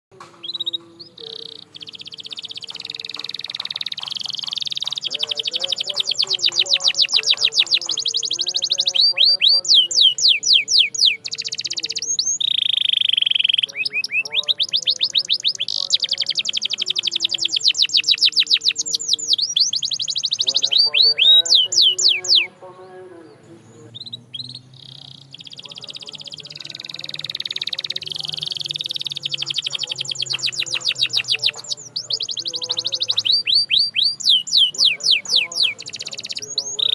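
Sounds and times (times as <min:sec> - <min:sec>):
canary singing trills: 0:00.1 - 0:36.9.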